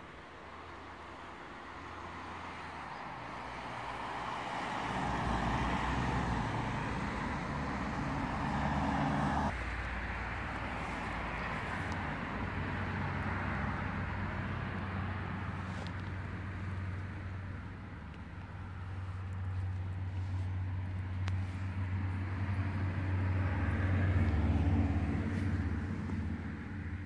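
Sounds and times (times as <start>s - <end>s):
road traffic hum: 0.0s - 27.0s.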